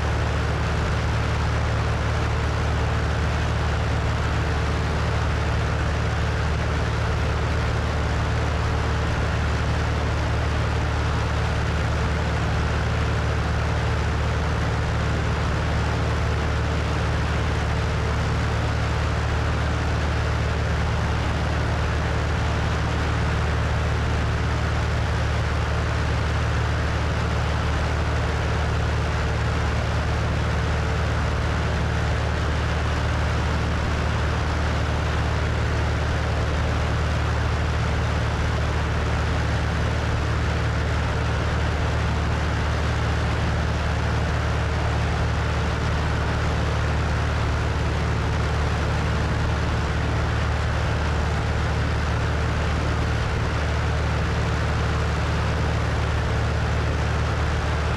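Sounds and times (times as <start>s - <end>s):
propeller plane engine droning: 0.0s - 57.9s.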